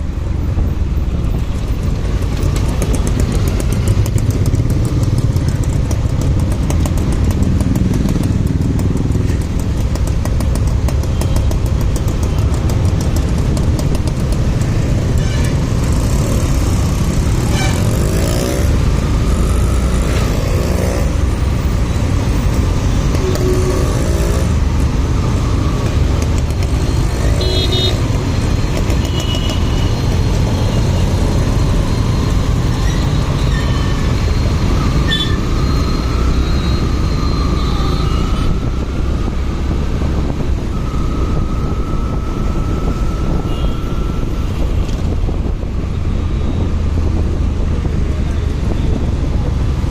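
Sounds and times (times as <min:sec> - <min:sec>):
motorcycle engine and wind rumble: 0:00.0 - 0:49.9.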